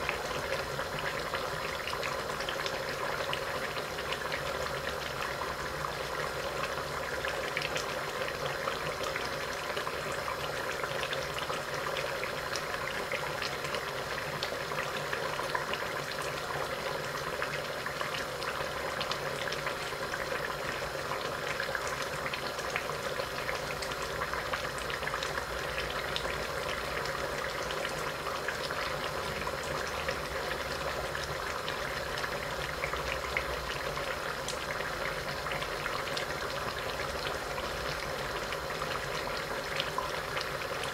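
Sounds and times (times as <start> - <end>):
food bubbling and crackling in pot: 0.0 - 40.9.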